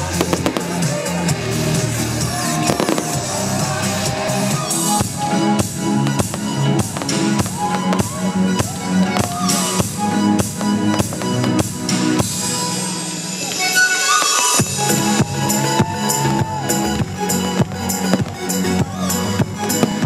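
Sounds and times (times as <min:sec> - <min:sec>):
music with steady drum beat: 0:00.0 - 0:20.0.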